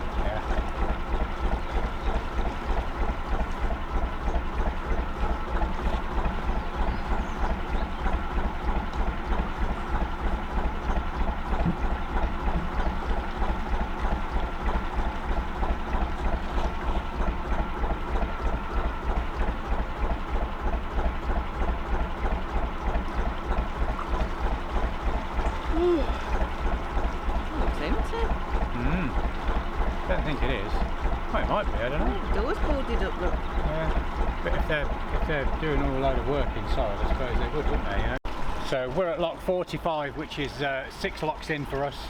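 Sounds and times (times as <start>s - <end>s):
diesel boat engine thumping: 0.0s - 42.0s.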